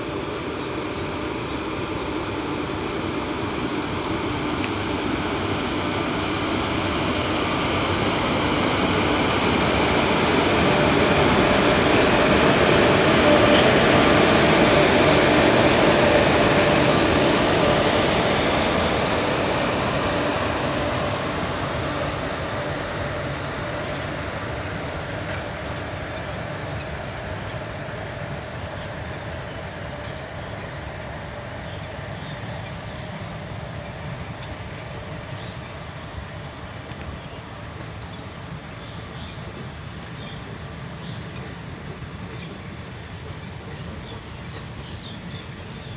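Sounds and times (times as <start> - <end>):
train rolling past: 0.0 - 45.9.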